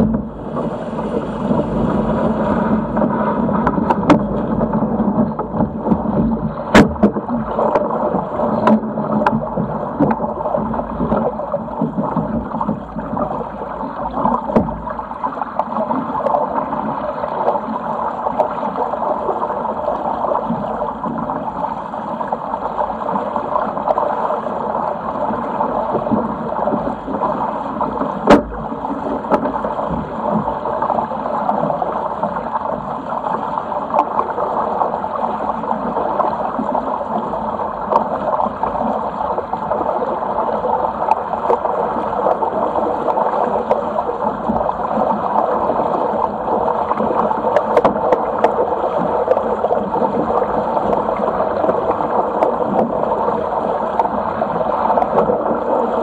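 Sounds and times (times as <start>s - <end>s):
water rushing along a hull: 0.0s - 56.0s.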